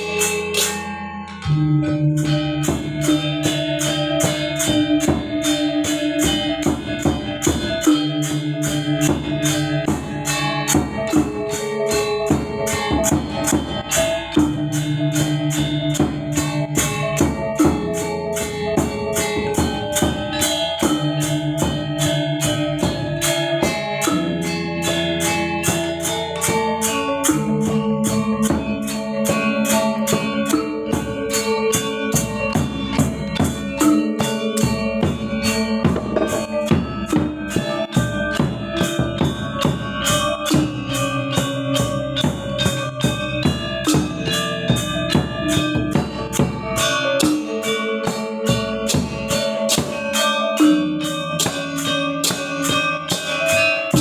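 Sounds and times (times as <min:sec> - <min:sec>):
gamelan gong ensemble playing: 0:00.0 - 0:54.0.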